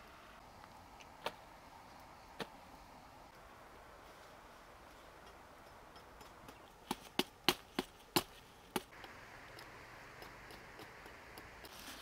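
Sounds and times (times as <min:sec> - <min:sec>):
steady soft hiss: 0:00.0 - 0:12.0.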